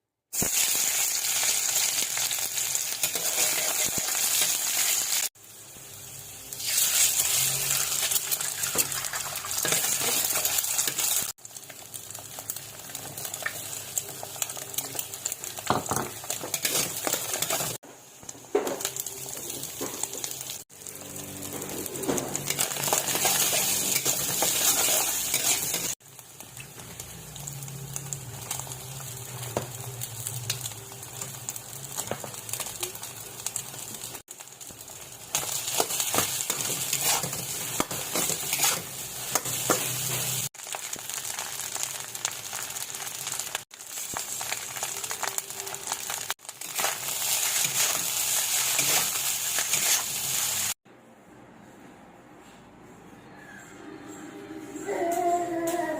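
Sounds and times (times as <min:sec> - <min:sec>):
rice sizzling in a pan: 0:00.3 - 0:50.8.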